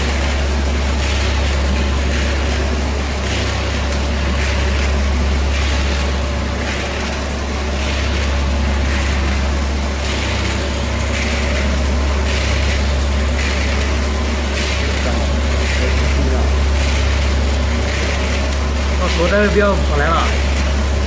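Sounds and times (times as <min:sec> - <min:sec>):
mixer motor hum: 0:00.0 - 0:21.0.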